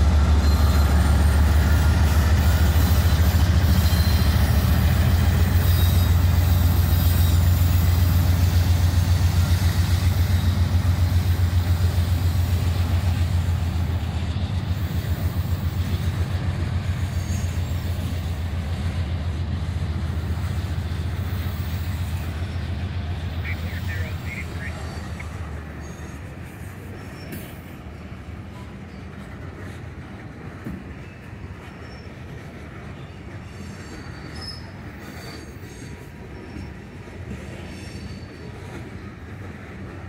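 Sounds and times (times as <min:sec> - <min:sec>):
diesel locomotive engine rumble: 0:00.0 - 0:40.0
hopper cars rolling past: 0:00.0 - 0:40.0.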